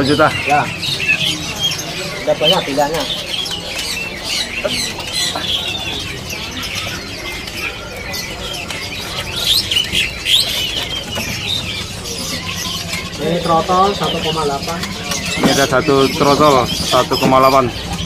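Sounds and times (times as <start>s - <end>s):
songbirds chirping and calling: 0.0s - 18.0s.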